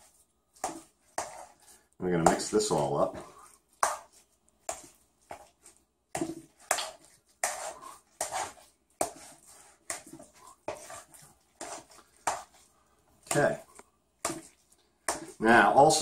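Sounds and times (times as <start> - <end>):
spoon stirring sticky mixture: 0.0 - 16.0.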